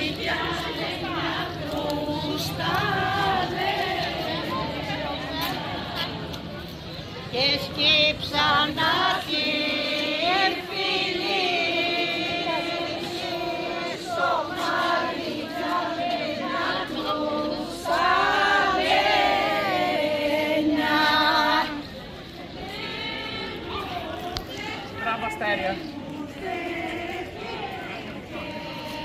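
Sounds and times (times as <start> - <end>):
women and children singing: 0.0 - 6.6, 7.3 - 25.0, 25.8 - 29.0.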